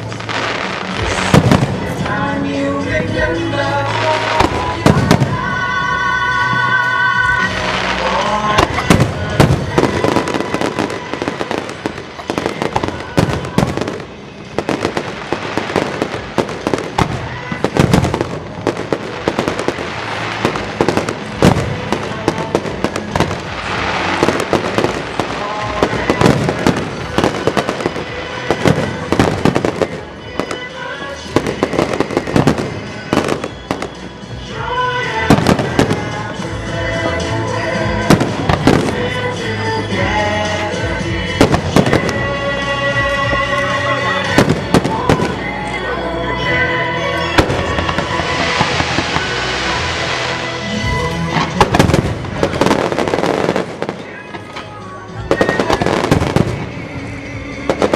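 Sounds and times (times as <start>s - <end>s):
music over loudspeakers: 0.0s - 57.9s.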